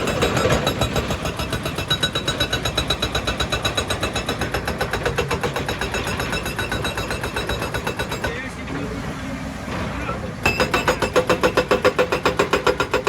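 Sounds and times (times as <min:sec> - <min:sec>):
hydraulic rock breaker hammering rock: 0:00.0 - 0:08.6, 0:10.4 - 0:13.0.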